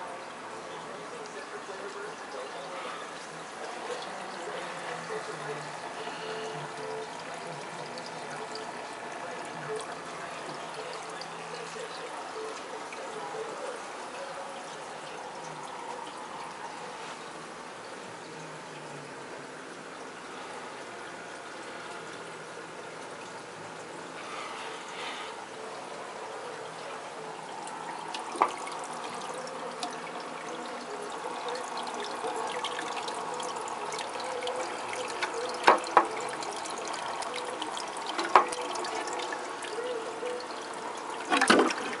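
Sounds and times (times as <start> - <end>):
water trickling in aquarium: 0.0 - 42.0.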